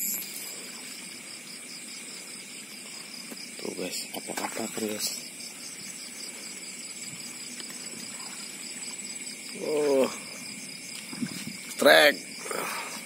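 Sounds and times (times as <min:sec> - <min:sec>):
crickets and insects chirring: 0:00.0 - 0:13.0.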